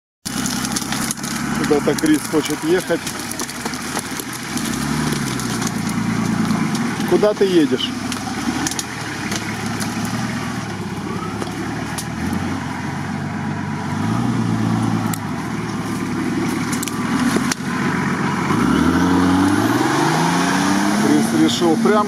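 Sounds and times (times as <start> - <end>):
off-road engines revving in mud: 0.3 - 22.0.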